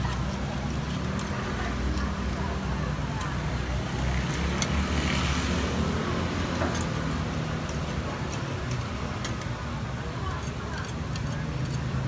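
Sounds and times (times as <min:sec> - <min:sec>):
metal tongs ticking on a griddle: 0:00.0 - 0:04.8, 0:06.7 - 0:12.0.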